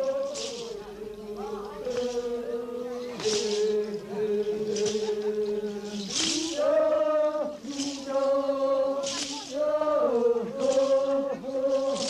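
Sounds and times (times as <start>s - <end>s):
men chanting: 0.0s - 12.0s.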